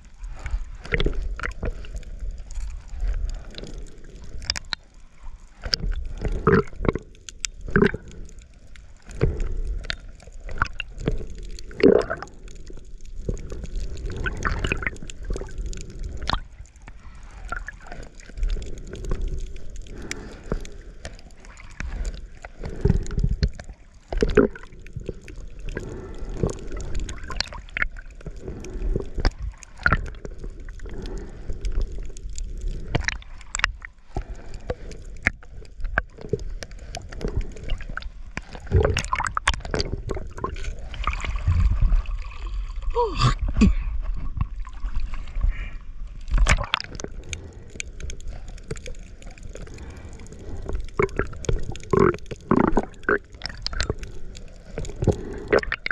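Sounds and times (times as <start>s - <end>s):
water gurgling and sloshing: 0.0s - 55.9s.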